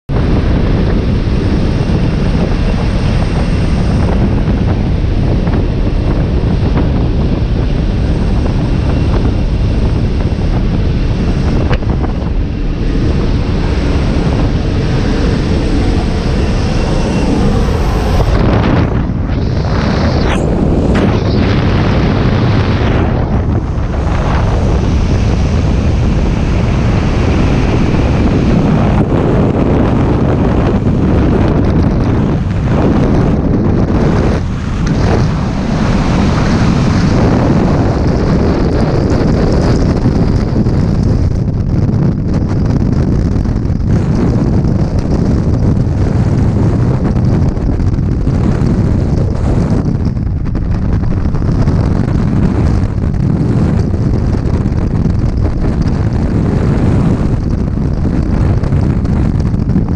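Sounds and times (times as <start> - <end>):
aircraft engine: 0.0 - 59.9
freefall wind on microphone: 0.0 - 59.9
rushing air through open door: 0.1 - 59.8.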